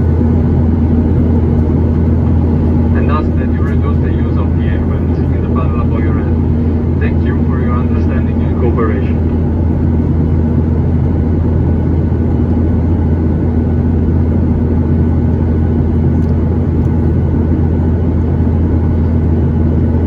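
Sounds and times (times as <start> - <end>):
jet cabin drone: 0.0 - 20.0.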